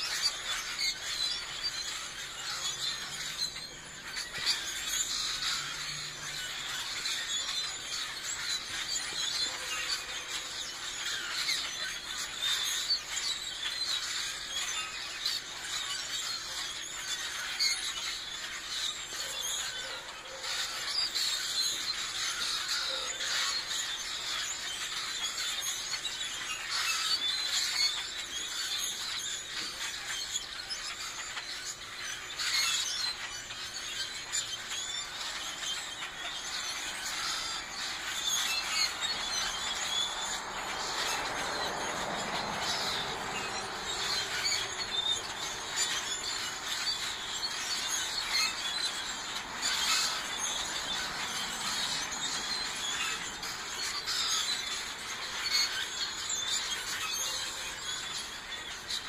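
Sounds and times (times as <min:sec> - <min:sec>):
flock of birds chirping: 0:00.0 - 0:59.0.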